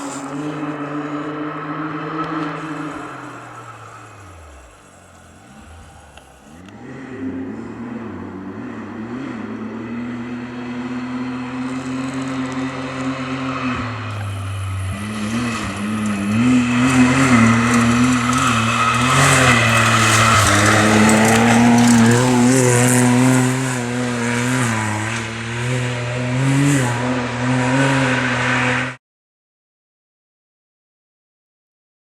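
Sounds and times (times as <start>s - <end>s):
car engine running hard: 0.0s - 29.0s.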